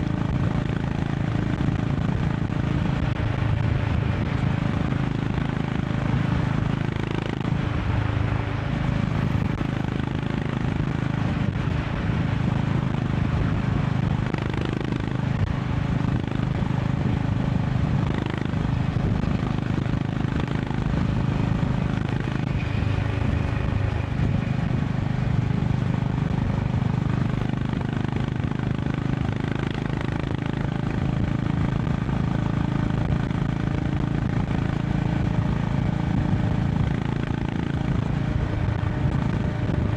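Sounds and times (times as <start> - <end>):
motorcycle engine cruising: 0.0 - 39.9
wind rush and road noise: 0.0 - 39.9.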